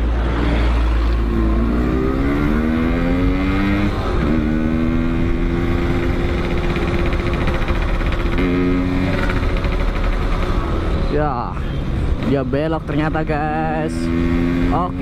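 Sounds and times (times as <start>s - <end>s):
motorcycle engine accelerating: 0.3s - 11.2s, 12.2s - 15.0s.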